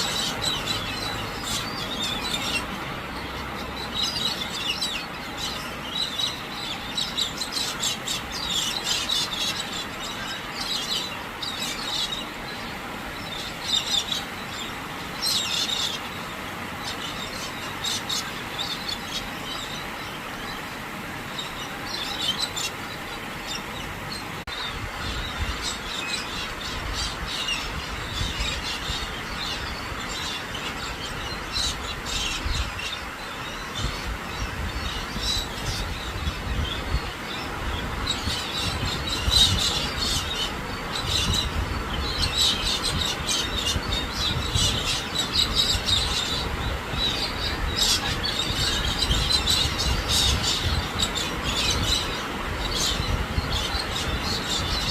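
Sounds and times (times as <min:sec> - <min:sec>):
birds chirping and screeching: 0:00.0 - 0:54.9.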